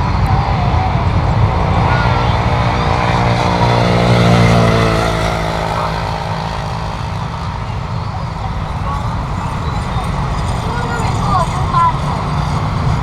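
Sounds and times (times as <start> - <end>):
jet engines passing: 0.0 - 13.0.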